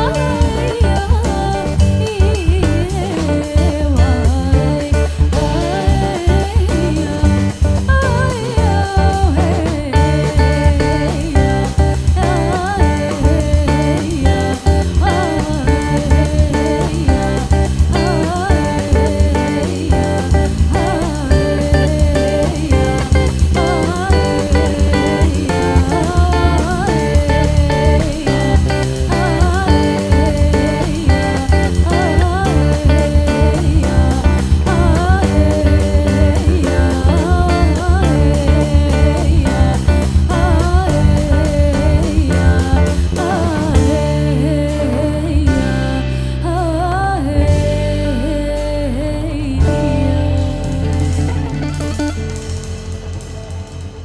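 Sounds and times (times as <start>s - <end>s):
drum kit: 0.0s - 54.0s
electric bass: 0.0s - 54.0s
electric guitar solo: 0.0s - 54.0s.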